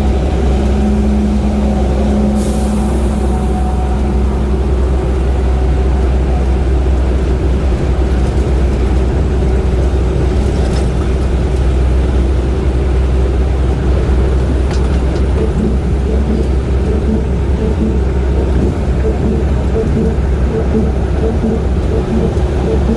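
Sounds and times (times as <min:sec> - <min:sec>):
vehicle engine and road noise: 0:00.0 - 0:22.9.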